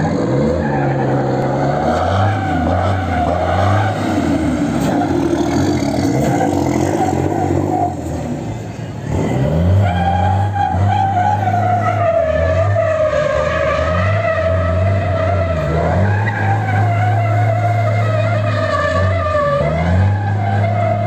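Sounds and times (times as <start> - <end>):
diesel truck engine revving: 0.0 - 21.0.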